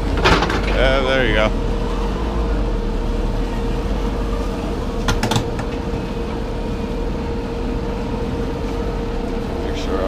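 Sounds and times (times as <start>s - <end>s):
forklift engine humming: 0.0s - 10.0s.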